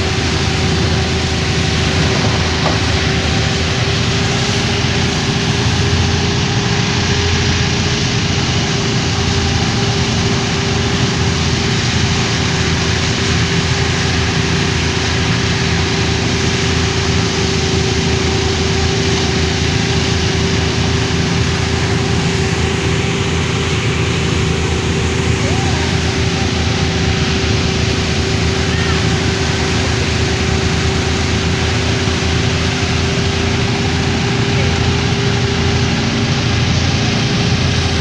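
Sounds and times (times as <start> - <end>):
thresher engine rumbling: 0.0 - 38.0.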